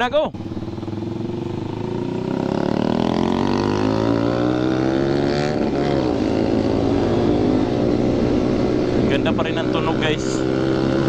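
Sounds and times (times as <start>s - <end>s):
motorcycle accelerating hard: 0.4s - 11.0s.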